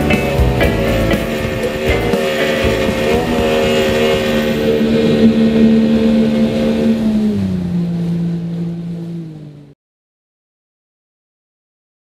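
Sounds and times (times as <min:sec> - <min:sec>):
outboard motor running: 0:00.0 - 0:09.8.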